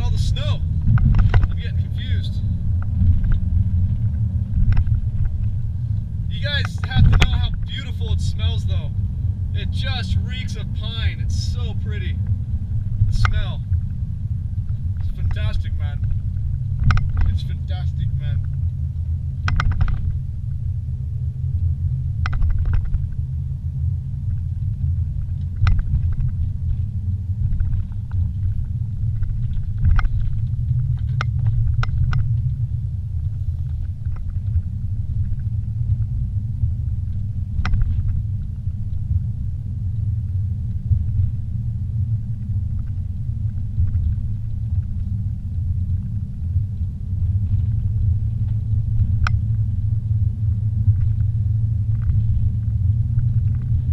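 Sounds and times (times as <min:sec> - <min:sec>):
car interior road rumble: 0:00.0 - 0:53.9.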